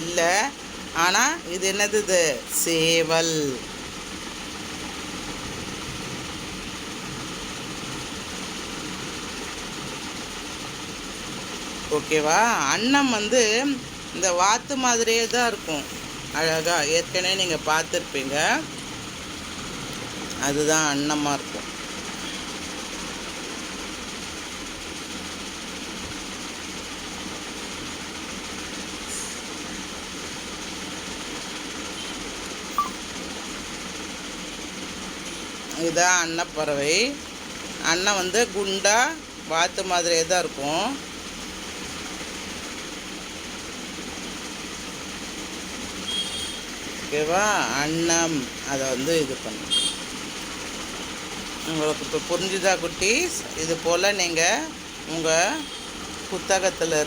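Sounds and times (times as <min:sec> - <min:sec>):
background hum and hiss: 0:00.0 - 0:57.0.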